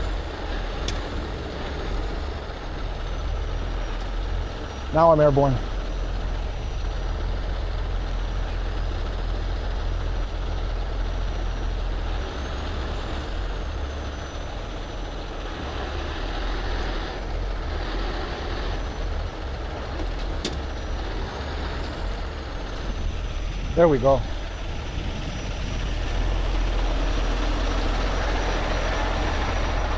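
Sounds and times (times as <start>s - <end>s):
diesel engine running under load: 0.0s - 29.9s.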